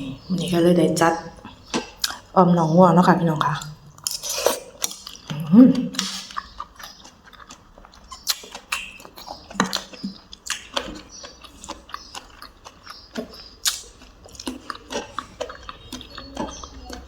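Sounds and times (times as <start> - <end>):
person chewing and lip-smacking: 1.4 - 2.3, 3.6 - 17.0.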